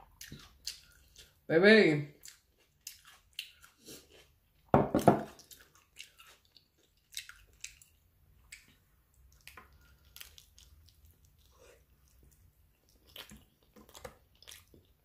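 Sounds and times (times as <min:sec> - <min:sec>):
person chewing with wet smacks: 0:00.0 - 0:01.5, 0:02.1 - 0:04.7, 0:05.3 - 0:15.0.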